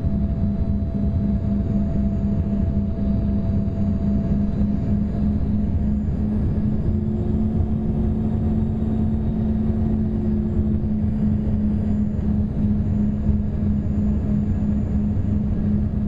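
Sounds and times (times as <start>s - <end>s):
droning hum: 0.0s - 16.0s
jet engine rumble: 0.0s - 16.0s.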